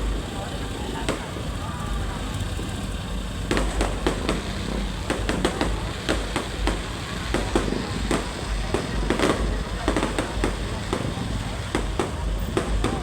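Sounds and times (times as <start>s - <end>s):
fireworks banging: 0.0s - 13.0s
steady low rumble: 0.0s - 13.0s.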